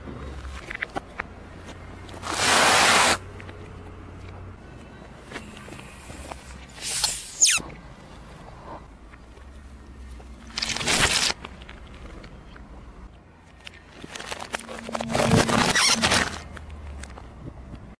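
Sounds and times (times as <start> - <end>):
low car engine hum: 0.0 - 17.9.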